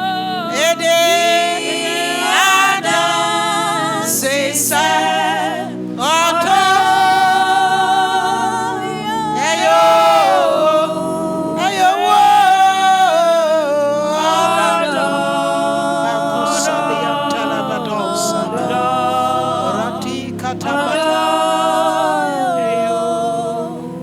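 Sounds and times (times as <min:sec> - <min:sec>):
voices singing unaccompanied: 0:00.0 - 0:24.0.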